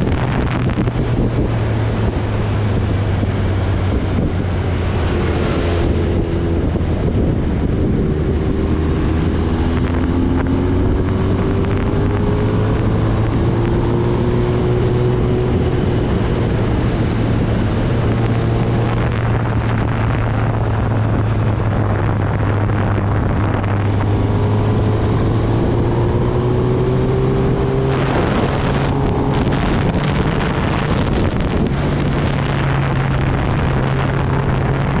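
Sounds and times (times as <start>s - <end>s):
wind rush on microphone: 0.0s - 35.0s.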